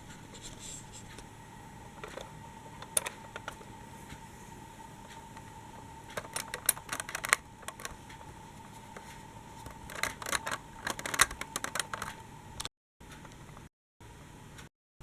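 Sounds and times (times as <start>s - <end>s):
rapid light clicking and tapping: 0.0s - 13.7s
faint high hum: 0.0s - 14.7s.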